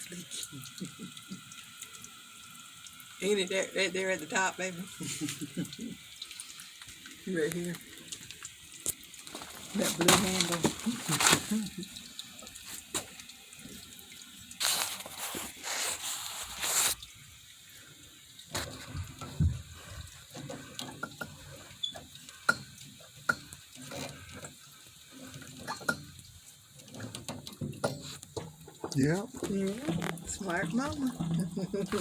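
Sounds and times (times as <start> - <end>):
water hissing from a leak: 0.0 - 32.0.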